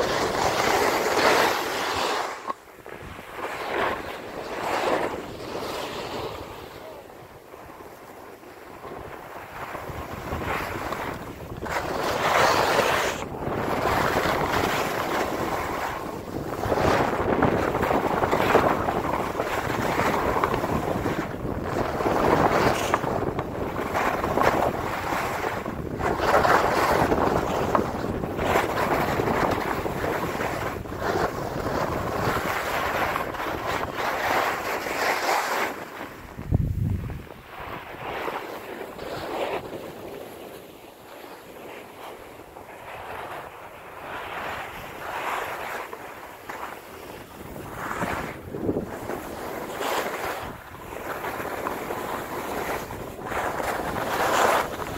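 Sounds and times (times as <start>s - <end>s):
skis scraping on snow: 0.0s - 54.9s
wind on microphone: 0.0s - 54.9s.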